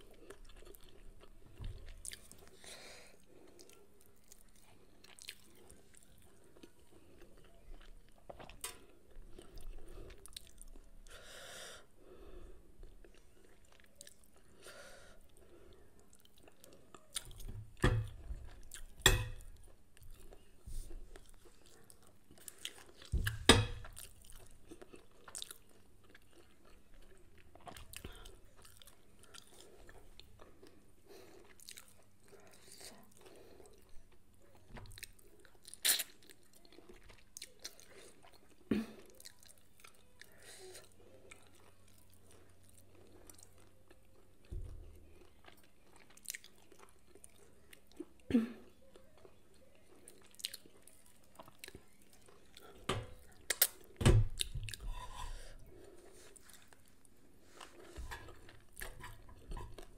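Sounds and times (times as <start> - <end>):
person chewing food: 0.0 - 11.4, 12.4 - 59.9.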